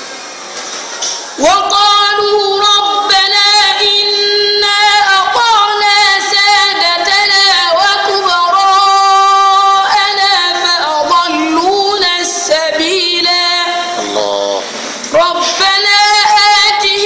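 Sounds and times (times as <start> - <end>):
boy chanting recitation: 1.4 - 14.6, 15.2 - 17.0.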